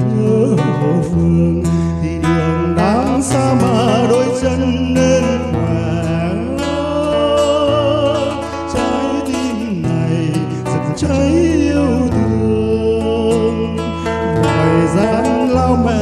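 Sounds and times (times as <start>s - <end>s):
acoustic guitar: 0.0s - 16.0s
man singing into a microphone: 0.0s - 16.0s.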